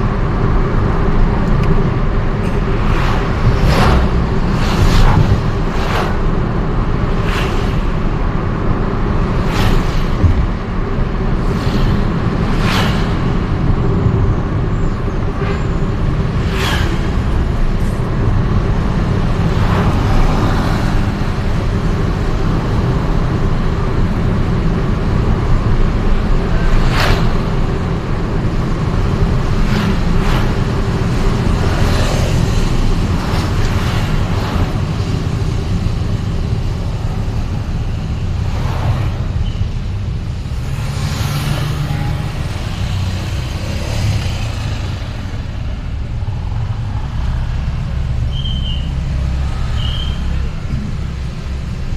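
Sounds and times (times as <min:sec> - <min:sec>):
road traffic rumble: 0:00.0 - 0:51.9.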